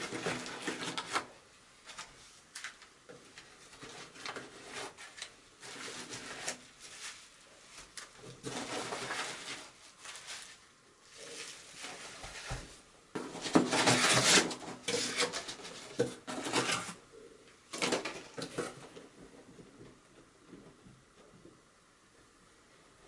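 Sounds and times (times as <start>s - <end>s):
bubble wrap and cardboard rustling: 0.0s - 20.0s.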